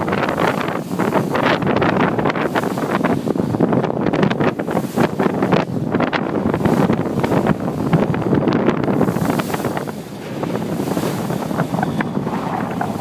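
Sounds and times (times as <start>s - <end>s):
sea water rushing: 0.0s - 13.0s
wind buffeting microphone: 0.0s - 13.0s.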